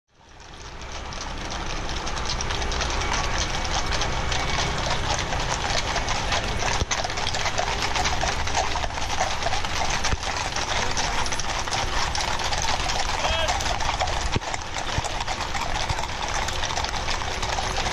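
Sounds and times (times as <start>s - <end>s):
horse hooves clattering on street: 0.1s - 17.9s.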